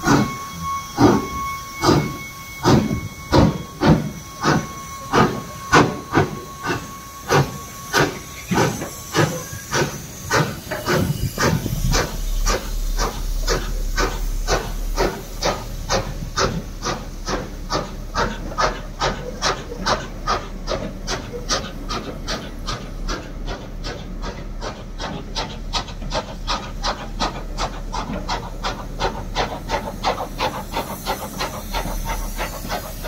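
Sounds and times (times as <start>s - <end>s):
steam hiss: 0.0s - 33.0s
steam locomotive chuffing: 0.0s - 33.0s.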